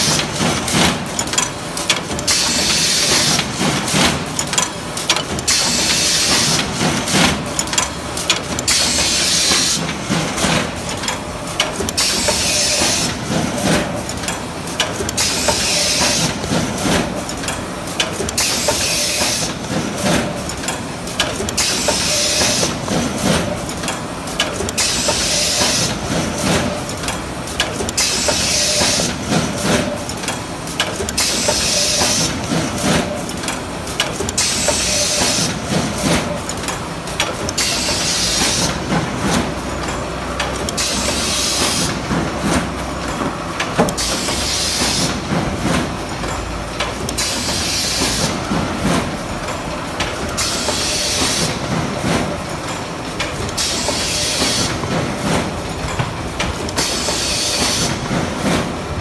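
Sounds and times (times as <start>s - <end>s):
binding machine clatter: 0.0s - 59.0s.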